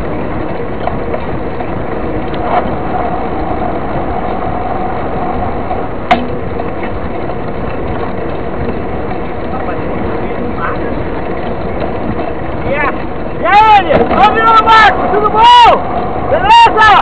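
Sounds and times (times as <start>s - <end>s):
wind rushing: 0.0s - 10.1s, 11.0s - 17.0s
bike tyres on asphalt: 0.0s - 17.0s.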